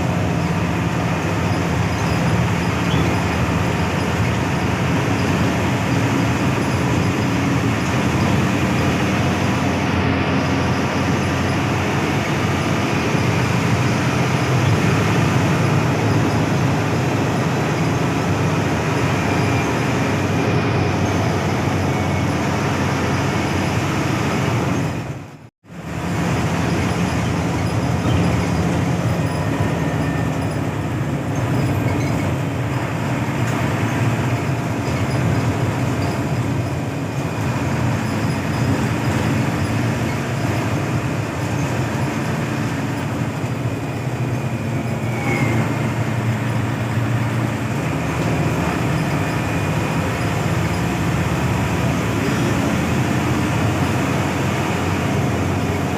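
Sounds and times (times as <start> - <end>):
bus engine drone: 0.0 - 55.9
road and wind noise: 0.0 - 55.9.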